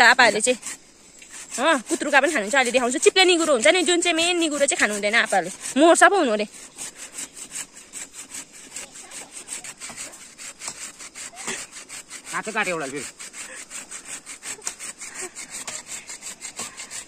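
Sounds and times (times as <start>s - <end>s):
hand saw cutting wood: 0.0s - 17.0s.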